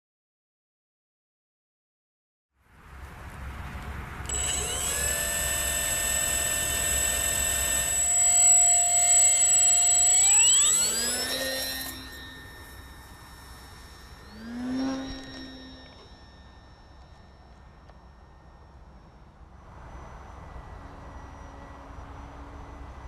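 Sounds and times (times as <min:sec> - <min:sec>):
electric motor whining: 0:04.2 - 0:22.8.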